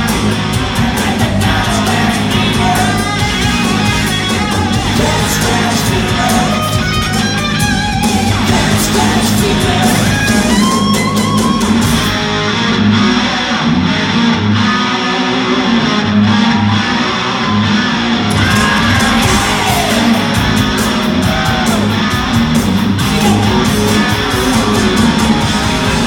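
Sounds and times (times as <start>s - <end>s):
hard rock band playing: 0.0s - 26.0s
lead guitar bending notes: 0.0s - 26.0s.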